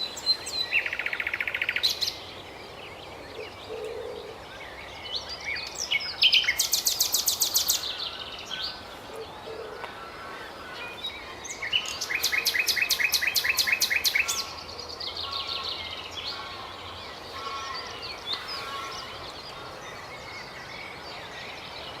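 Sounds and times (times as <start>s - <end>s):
nightingale singing: 0.0s - 2.6s, 3.2s - 9.9s, 10.8s - 22.0s.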